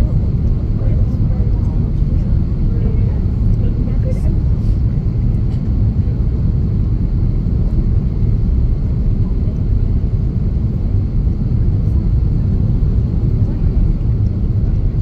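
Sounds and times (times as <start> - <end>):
jet engines in airplane cabin: 0.0 - 15.0.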